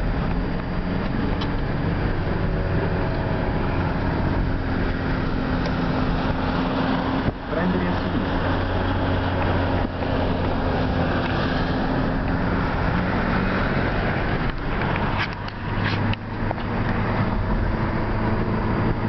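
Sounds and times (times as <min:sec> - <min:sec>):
car engine hum: 0:00.0 - 0:19.0
road noise: 0:00.0 - 0:19.0.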